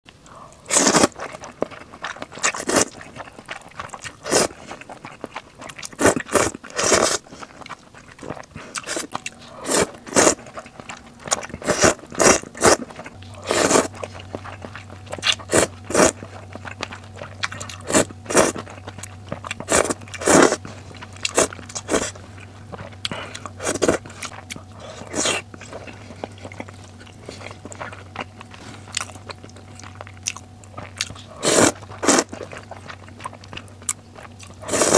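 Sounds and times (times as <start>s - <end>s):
chewing: 0.2s - 34.9s
slurping noodles: 0.7s - 4.8s, 5.8s - 18.8s, 19.4s - 29.0s, 30.8s - 32.9s, 34.6s - 34.9s.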